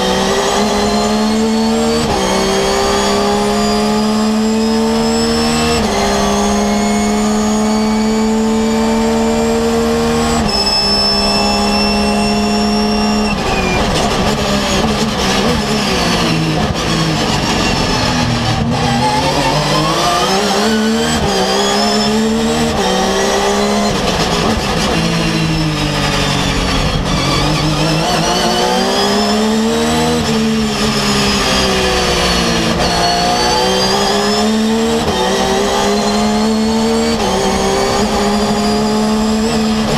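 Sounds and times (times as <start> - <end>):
racing engine at full throttle: 0.0 - 39.9.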